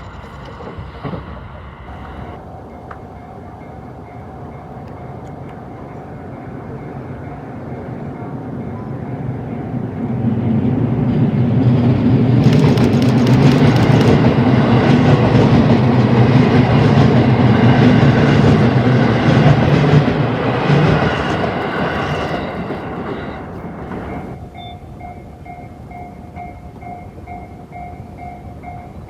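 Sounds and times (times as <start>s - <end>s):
train passing with wheel clatter: 0.0s - 29.0s.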